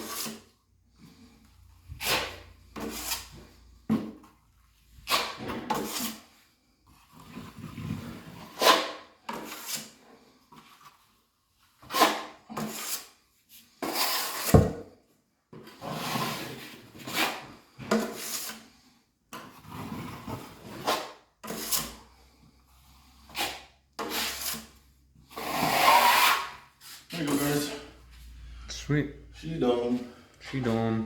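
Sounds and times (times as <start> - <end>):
drywall knife scraping compound: 0.0 - 27.9.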